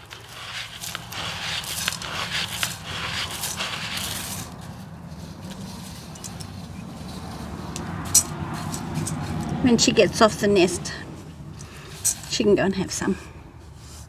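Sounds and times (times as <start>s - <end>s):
grain being scraped and scooped: 0.0s - 13.1s.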